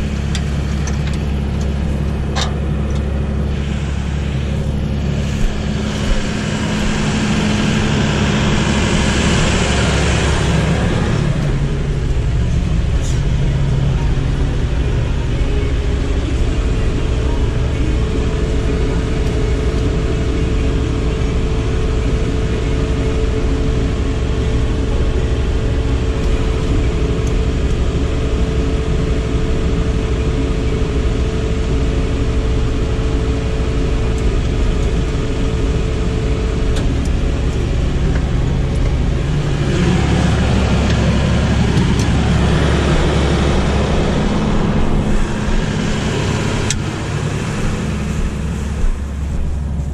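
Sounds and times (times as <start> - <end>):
diesel engine running: 0.0 - 49.9
thin steady whine: 0.0 - 49.9.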